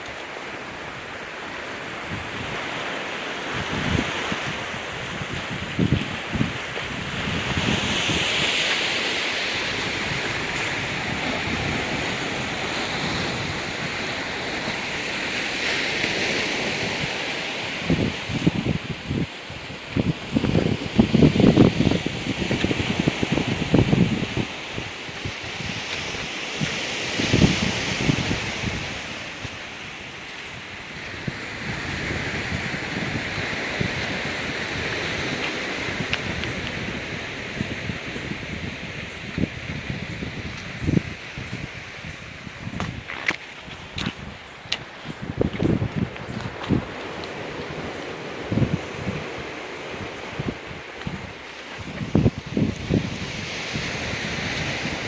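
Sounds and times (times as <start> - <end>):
surf washing on rocky beach: 0.0 - 55.0
wind buffeting microphone: 3.4 - 55.0.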